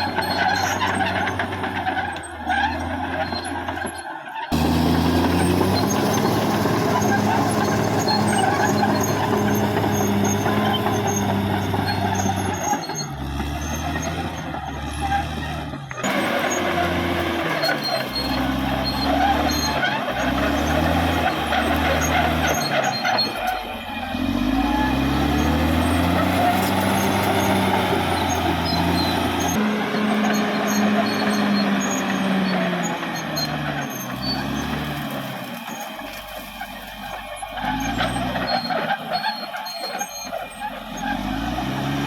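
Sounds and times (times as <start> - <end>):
bulldozer diesel engine: 0.0 - 42.0.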